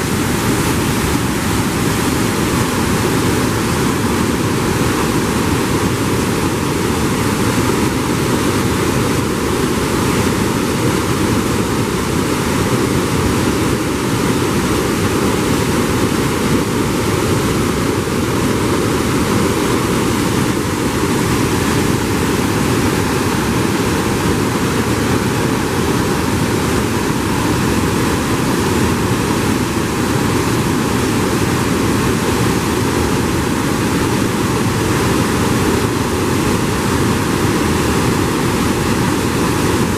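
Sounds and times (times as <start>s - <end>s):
waterfall and rapids rushing: 0.0s - 39.9s.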